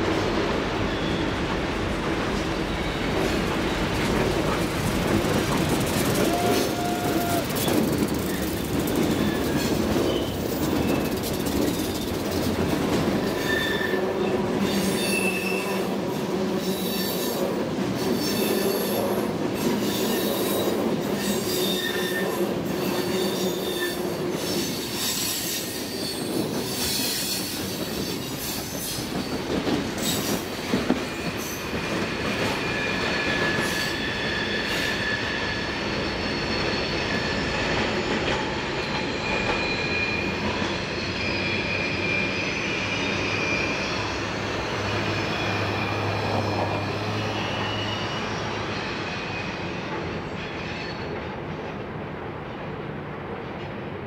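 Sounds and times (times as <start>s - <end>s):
train wheels rumbling on rail: 0.0s - 54.0s
wheels squealing against rails: 0.2s - 51.8s.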